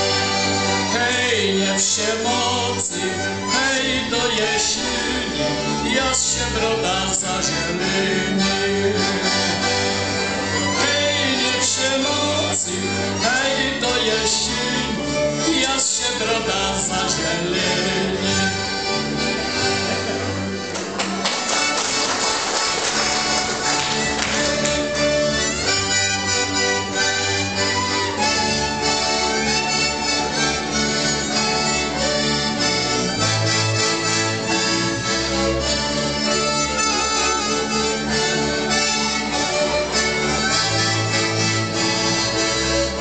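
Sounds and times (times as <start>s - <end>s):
bowed double bass: 0.0s - 22.0s, 22.9s - 43.0s
accordion: 0.0s - 43.0s
fiddles playing melody: 0.0s - 43.0s.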